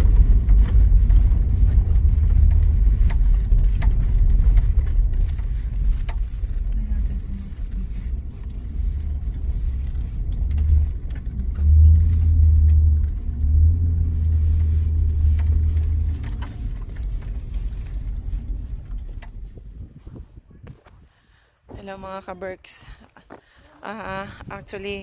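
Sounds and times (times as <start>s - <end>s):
light rattles and clicks: 0.0s - 20.9s
car engine and road rumble: 0.0s - 25.0s.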